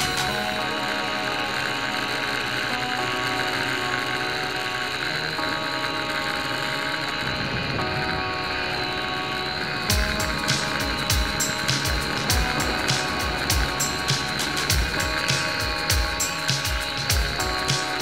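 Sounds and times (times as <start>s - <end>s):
electronic music with held chords: 0.0s - 18.0s.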